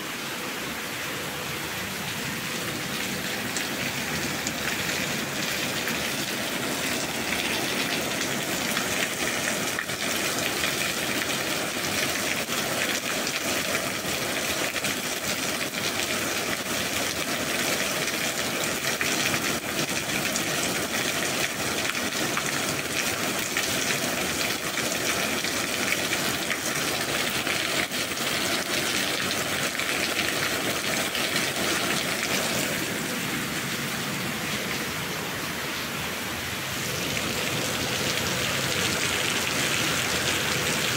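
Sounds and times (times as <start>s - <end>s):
steady rain hiss: 0.0s - 40.9s
scattered raindrops: 1.0s - 40.9s.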